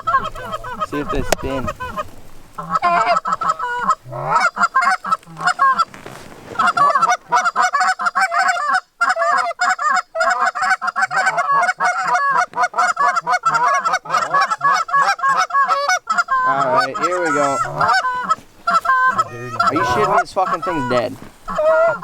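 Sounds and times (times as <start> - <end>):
geese honking and clucking: 0.0 - 22.0.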